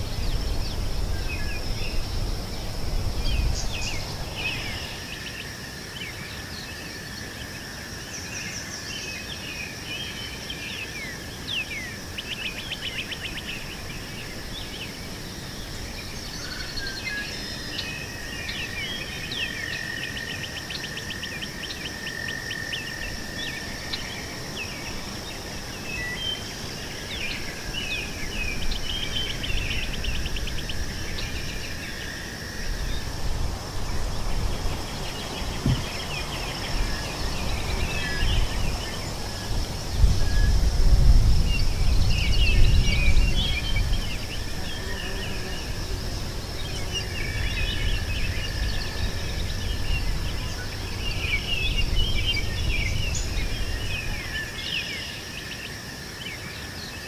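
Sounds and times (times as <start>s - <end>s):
birds chirping and trilling: 0.0s - 40.7s, 41.4s - 57.0s
insects droning: 0.0s - 57.0s.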